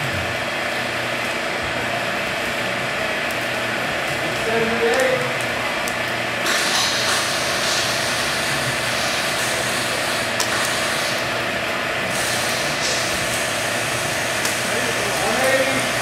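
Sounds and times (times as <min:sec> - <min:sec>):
hydraulic rig humming and hissing: 0:00.0 - 0:16.0.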